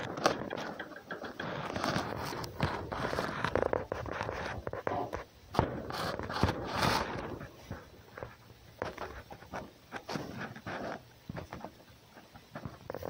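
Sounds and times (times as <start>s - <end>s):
rustling and scraping in straw: 0.0s - 13.0s
sharp knocks and bumps: 0.0s - 13.0s.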